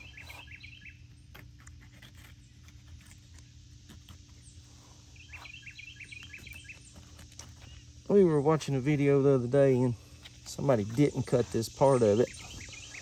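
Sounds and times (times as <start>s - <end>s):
bird chirping: 0.0s - 3.0s, 4.3s - 8.4s, 9.7s - 13.0s
steady low hum: 0.0s - 13.0s.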